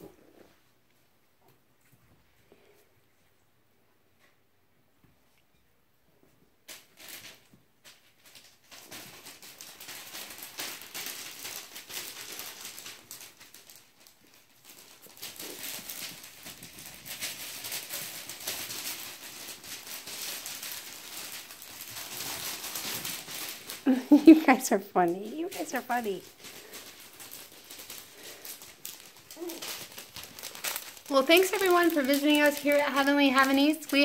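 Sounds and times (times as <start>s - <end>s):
paper rustling under puppy paws: 6.6s - 34.0s.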